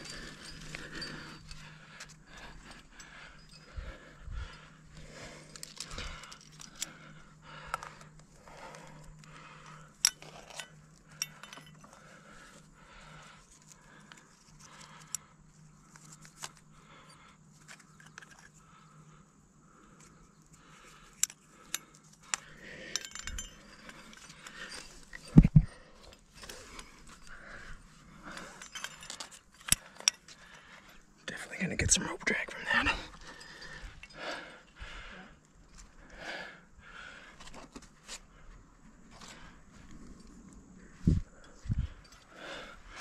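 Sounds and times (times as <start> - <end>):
climbing gear clinking: 0.0 - 19.0, 19.8 - 43.0.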